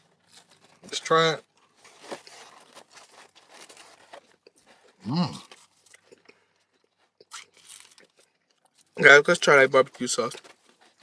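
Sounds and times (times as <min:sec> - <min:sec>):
crunchy food chewing: 0:00.0 - 0:09.0.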